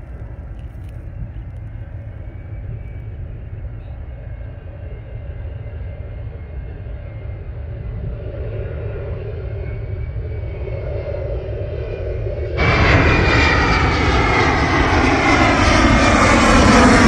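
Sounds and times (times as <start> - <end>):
faint high engine whine: 0.0 - 17.0
jet airliner engine rumble: 0.0 - 17.0.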